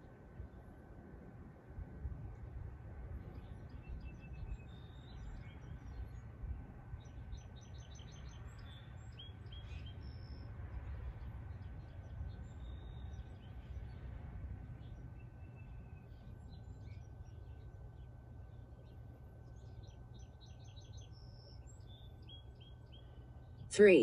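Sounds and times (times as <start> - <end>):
songbirds chirping: 0.0 - 24.0
steady low rumble: 0.0 - 24.0.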